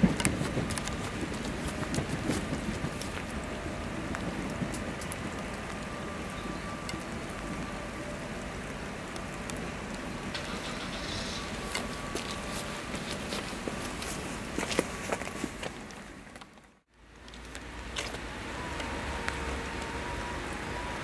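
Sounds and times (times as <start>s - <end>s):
sharp raindrop ticks: 0.0s - 14.1s, 15.9s - 21.0s
rain falling on wet tarmac: 0.0s - 21.0s.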